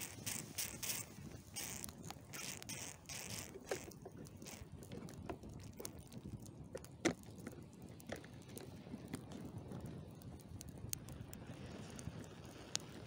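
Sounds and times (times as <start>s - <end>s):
burning cardboard crackling: 0.0s - 13.0s
fire popping: 0.0s - 13.0s.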